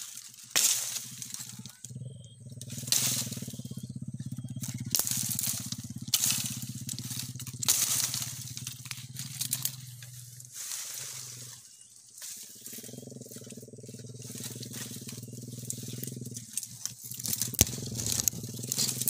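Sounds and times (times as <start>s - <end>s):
branches crackling and snapping: 0.0s - 19.0s
steady low hum: 0.2s - 19.0s.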